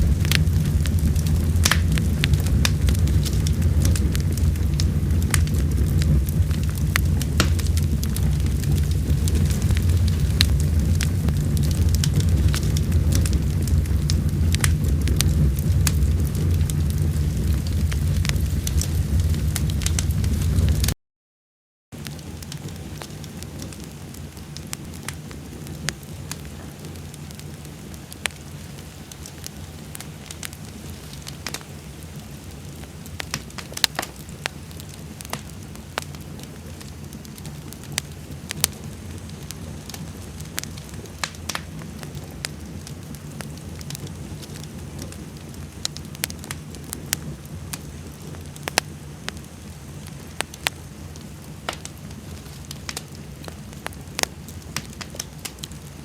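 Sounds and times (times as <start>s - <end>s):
fire crackling and popping: 0.0s - 21.0s, 21.9s - 56.0s.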